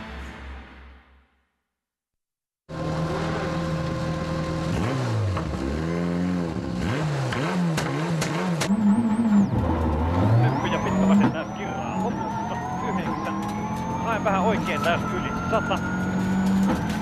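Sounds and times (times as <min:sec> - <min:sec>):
rally car engine revving: 0:02.7 - 0:17.0.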